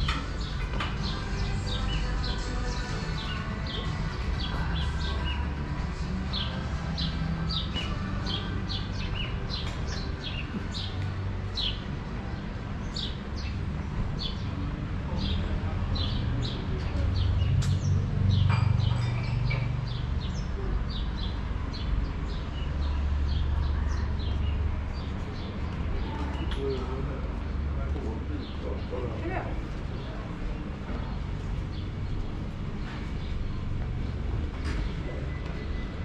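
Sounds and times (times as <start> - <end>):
passing street traffic rumble: 0.0 - 36.0.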